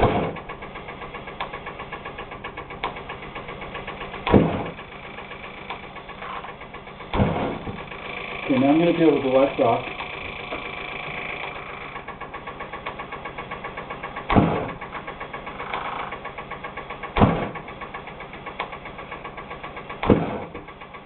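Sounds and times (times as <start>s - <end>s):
loud combustion pops: 0.0s - 9.3s, 10.5s - 21.0s
engine rapid ticking: 0.0s - 21.0s.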